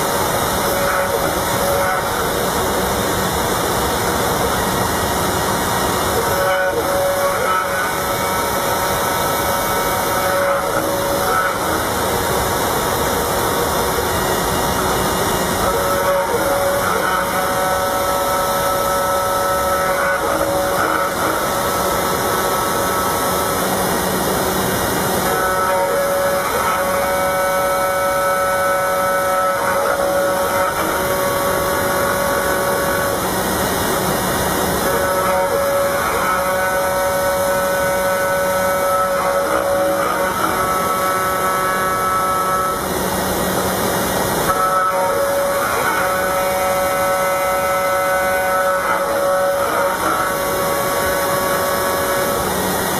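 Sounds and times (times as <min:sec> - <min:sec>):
router spindle cutting aluminum: 0:00.0 - 0:52.9.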